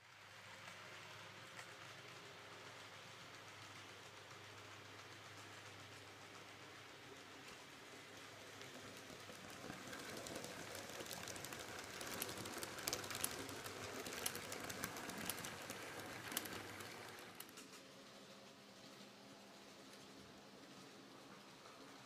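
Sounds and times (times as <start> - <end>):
model train rolling rattle: 0.0 - 22.0
wheels clicking on rails: 0.2 - 22.0.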